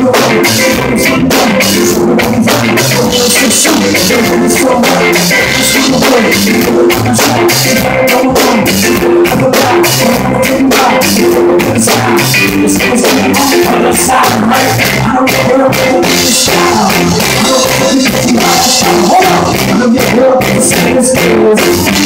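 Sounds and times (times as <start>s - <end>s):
bass guitar: 0.0s - 22.0s
drum kit: 0.0s - 22.0s
electric guitar: 0.0s - 22.0s.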